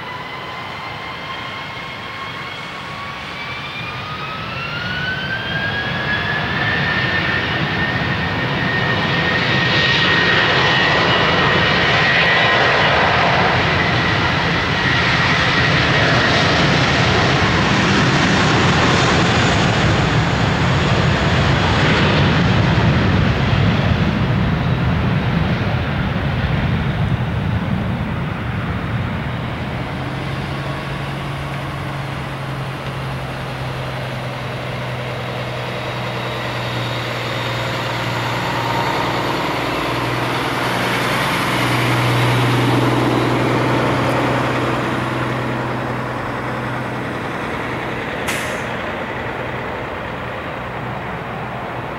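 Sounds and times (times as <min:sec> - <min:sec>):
jet engines roaring at takeoff: 0:00.0 - 0:51.9.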